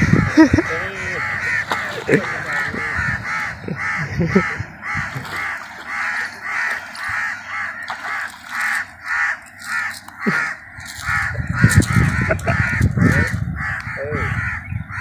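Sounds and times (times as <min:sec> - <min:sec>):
bird calling rhythmically: 0:00.0 - 0:15.0
low rumbling noise: 0:00.0 - 0:15.0.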